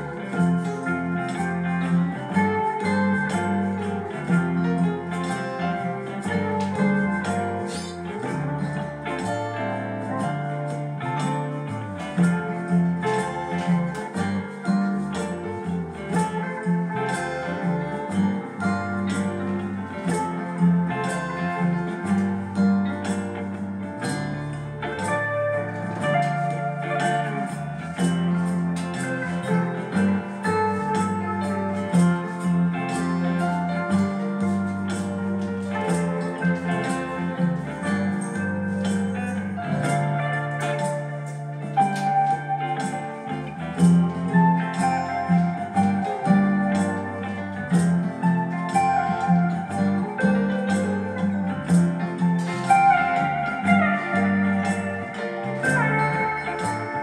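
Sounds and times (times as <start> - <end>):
bass line: 0.0 - 57.0
light percussion beat: 0.0 - 57.0
plucked guitar: 0.0 - 57.0.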